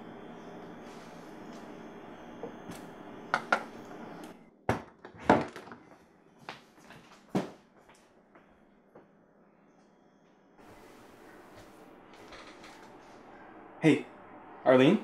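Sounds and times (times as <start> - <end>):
room hum: 0.0 - 15.0.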